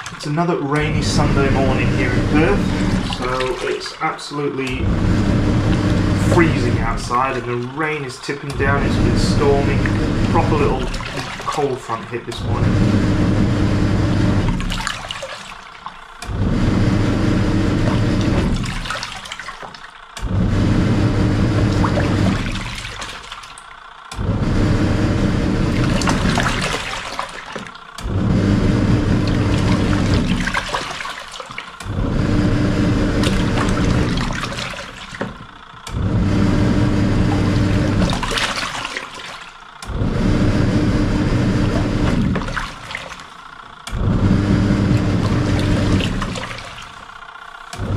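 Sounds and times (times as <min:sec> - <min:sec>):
washing machine motor humming: 0:00.0 - 0:47.9
water and laundry churning: 0:00.0 - 0:47.9.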